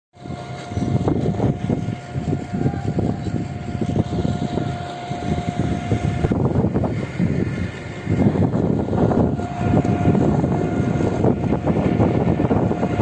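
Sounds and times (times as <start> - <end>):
concrete pump running: 0.2 - 13.0.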